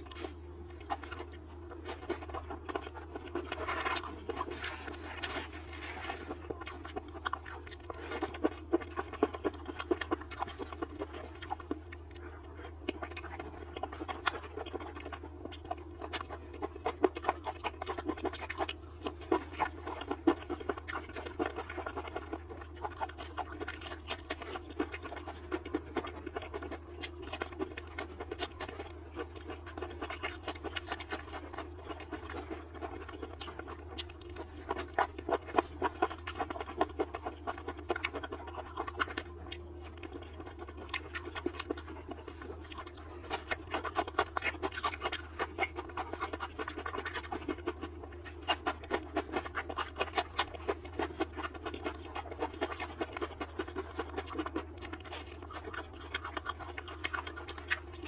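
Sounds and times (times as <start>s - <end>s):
steady low hum: 0.0s - 58.0s
wet chewing and crunching: 0.0s - 58.0s.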